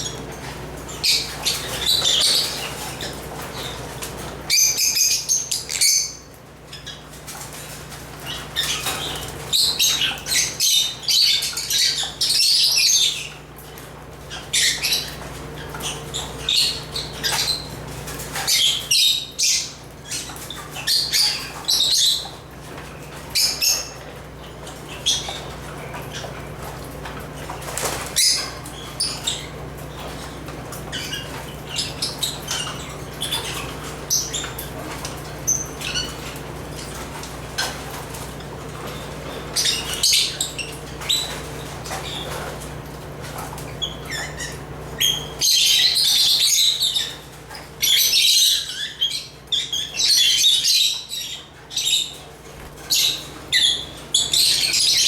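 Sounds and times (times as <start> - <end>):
lovebirds chirping: 0.0 - 7.2, 8.2 - 13.5, 14.2 - 55.0.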